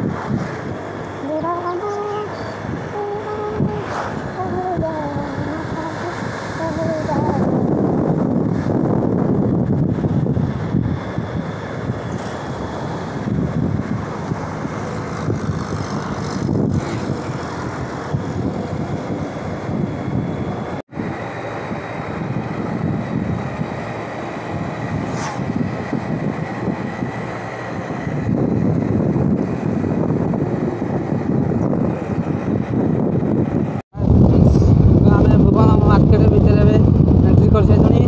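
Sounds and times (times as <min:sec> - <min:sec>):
motorbike road noise: 0:00.0 - 0:38.0
wind rushing over microphone: 0:00.0 - 0:38.0.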